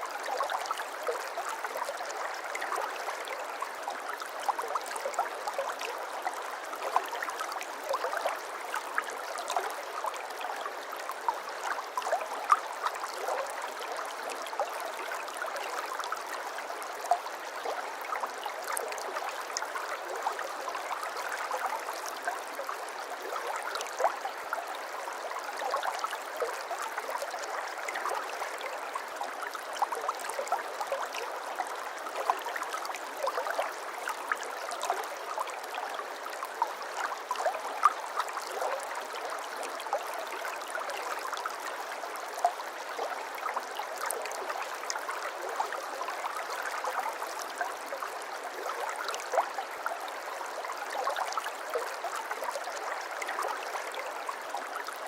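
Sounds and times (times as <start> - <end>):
water flowing in a stream: 0.0 - 55.0.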